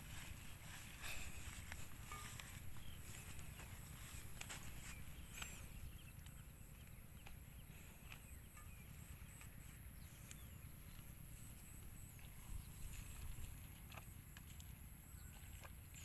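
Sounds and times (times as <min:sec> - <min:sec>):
steady low rumble: 0:00.0 - 0:14.4.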